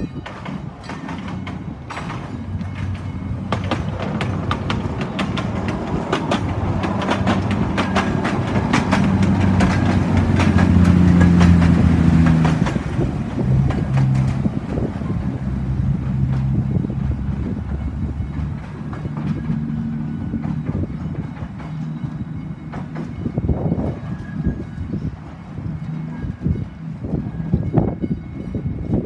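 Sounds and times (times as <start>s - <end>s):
locomotive engine droning: 0.0s - 29.0s
wheels clicking over rail joints: 0.0s - 29.0s.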